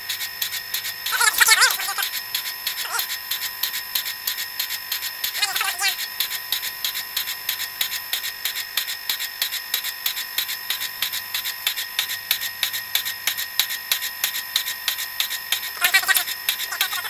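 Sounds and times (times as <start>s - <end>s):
fast regular machine clicking: 3.2s - 17.0s.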